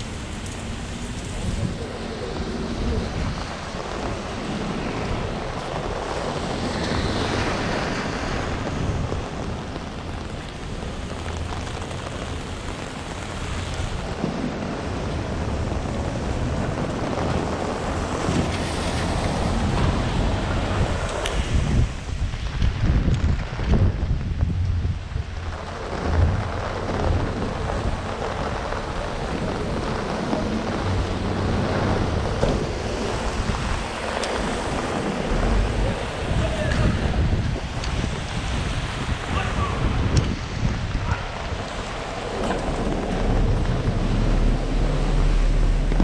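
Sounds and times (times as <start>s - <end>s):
heavy rain hissing: 0.0s - 46.0s
storm wind gusting: 0.0s - 46.0s.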